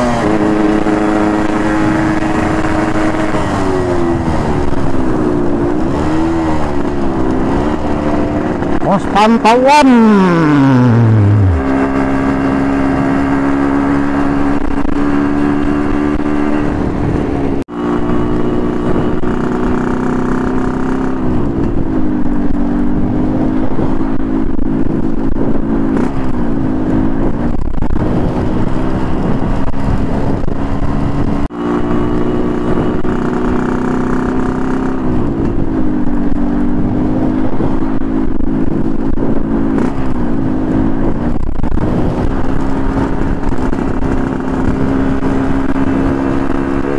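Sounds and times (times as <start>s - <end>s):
two-stroke motorcycle engine: 0.0s - 46.9s.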